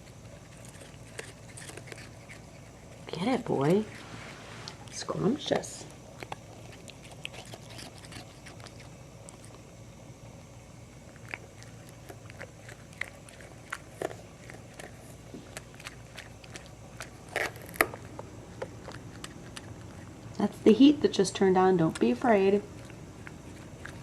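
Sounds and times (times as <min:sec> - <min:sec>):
cat chewing grass: 0:00.0 - 0:20.6, 0:21.8 - 0:24.0.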